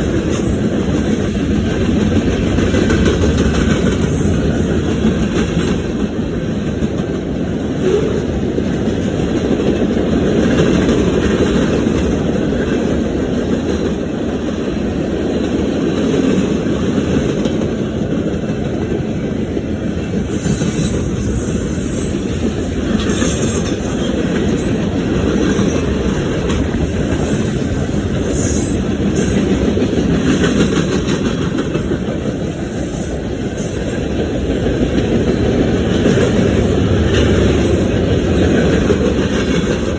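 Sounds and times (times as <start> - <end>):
clickety-clack over rail joints: 0.0 - 39.9
steel wheels rumbling on rail: 0.0 - 39.9.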